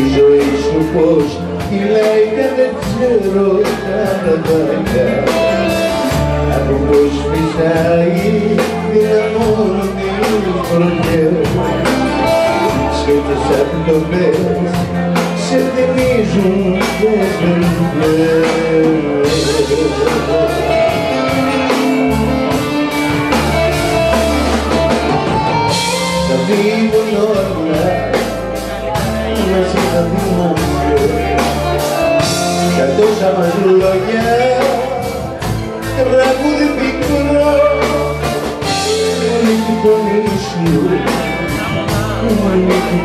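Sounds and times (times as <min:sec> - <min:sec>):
man singing into microphone: 0:00.0 - 0:22.9, 0:25.7 - 0:43.0
drum kit: 0:00.0 - 0:43.0
electric guitar: 0:00.0 - 0:43.0.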